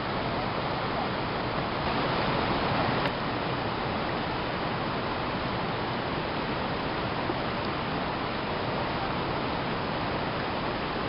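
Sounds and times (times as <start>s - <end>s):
river water over rocks: 0.0s - 11.0s.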